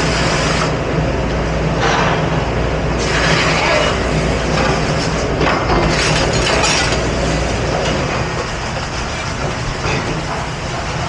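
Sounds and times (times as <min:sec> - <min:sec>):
steady machinery hum: 0:00.0 - 0:11.0.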